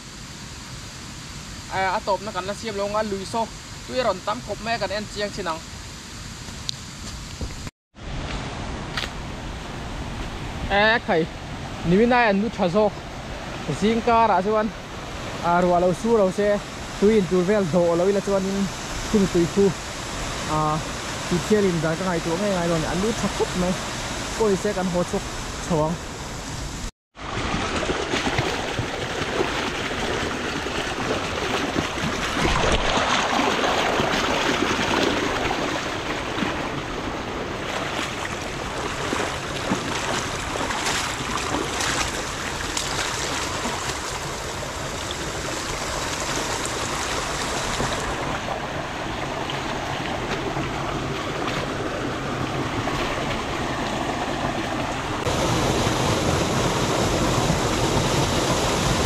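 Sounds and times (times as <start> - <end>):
stream water rushing: 0.4 - 59.0.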